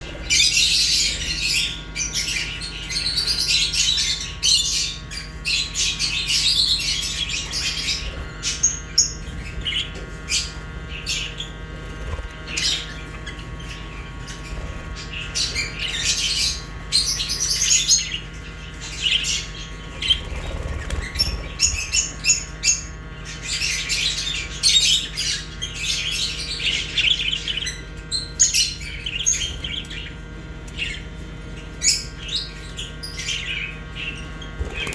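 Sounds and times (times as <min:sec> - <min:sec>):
birds chirping and squawking: 0:00.0 - 0:34.9.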